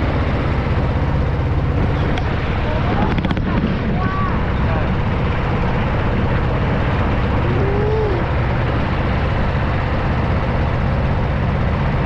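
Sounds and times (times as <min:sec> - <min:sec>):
motorboat engine running: 0:00.0 - 0:12.0
water rushing past boat: 0:00.0 - 0:12.0.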